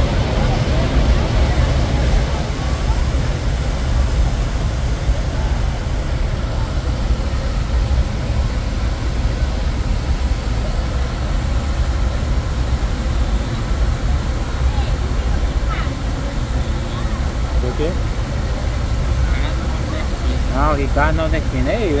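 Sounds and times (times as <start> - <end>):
deep rumble: 0.0 - 22.0
waterfall rushing: 0.0 - 22.0.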